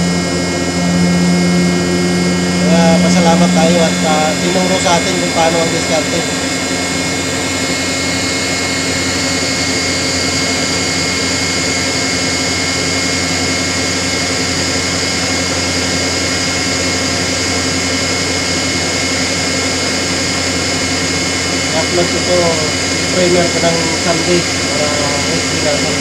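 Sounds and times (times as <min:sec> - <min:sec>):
hydraulic power unit drone: 0:00.0 - 0:26.0.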